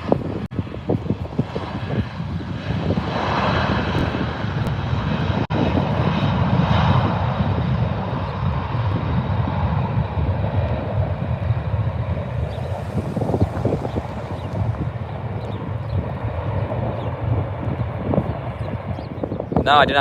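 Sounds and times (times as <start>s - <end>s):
airplane engines passing: 0.0s - 20.0s.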